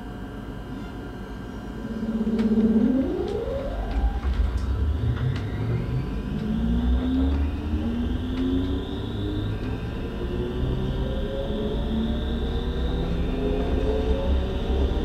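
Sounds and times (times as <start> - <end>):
electric train motor whine: 0.0 - 15.0
low rolling rumble: 1.8 - 15.0.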